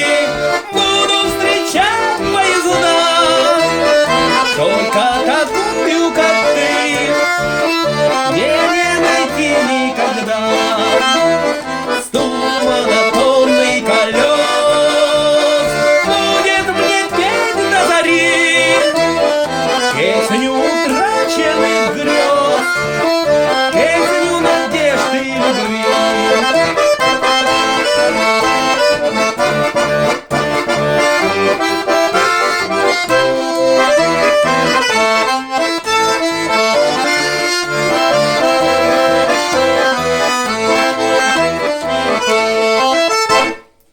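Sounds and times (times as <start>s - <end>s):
button accordion melody: 0.0s - 43.8s.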